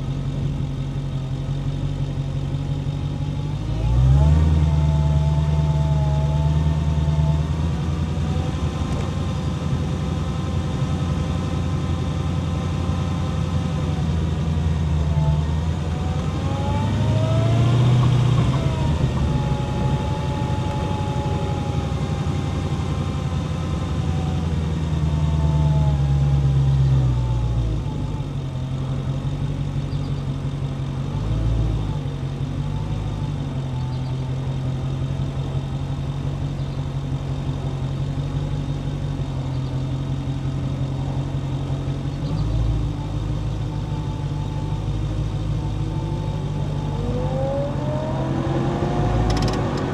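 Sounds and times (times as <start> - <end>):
car engine exhaust note: 0.0 - 49.9
engine throttle blips: 3.8 - 49.9.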